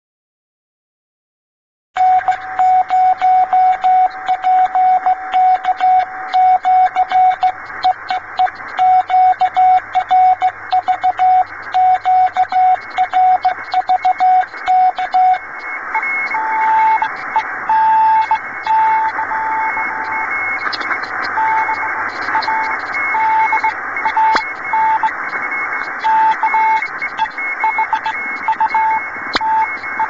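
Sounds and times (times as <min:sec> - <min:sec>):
higher-pitched morse code tone: 0:02.0 - 0:30.0
morse code tone: 0:02.0 - 0:30.0
receiver hiss: 0:02.0 - 0:30.0.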